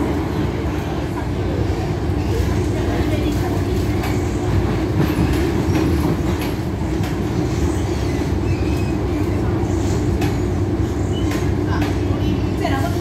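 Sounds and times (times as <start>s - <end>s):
train wheels and motors rumbling: 0.0s - 13.0s.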